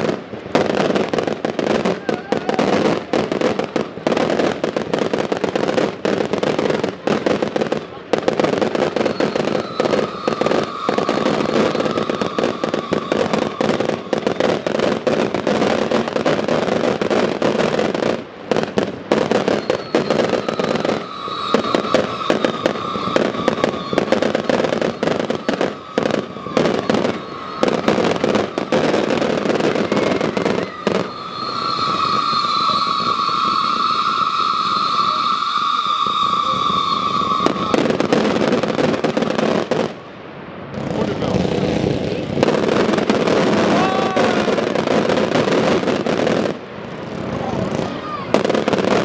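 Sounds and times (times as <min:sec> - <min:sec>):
fireworks bangs and crackling: 0:00.0 - 0:49.0
fireworks whistling: 0:00.0 - 0:49.0.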